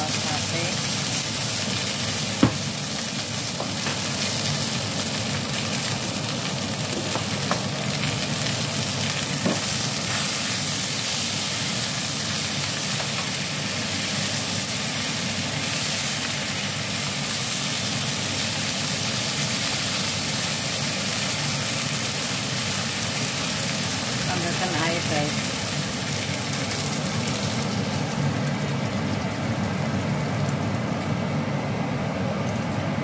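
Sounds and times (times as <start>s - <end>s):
chicken wings sizzling in a pan: 0.0s - 31.2s.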